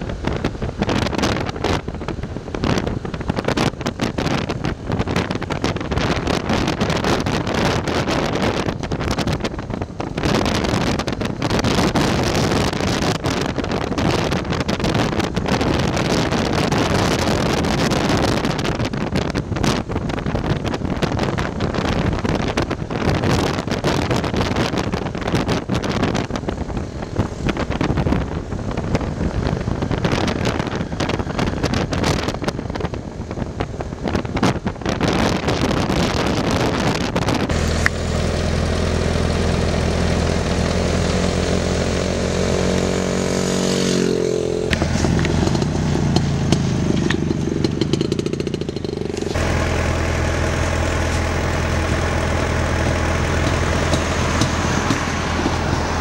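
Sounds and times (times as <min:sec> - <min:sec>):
motorcycle engine running: 0:00.0 - 0:56.0
wind gusting on microphone: 0:00.0 - 0:56.0.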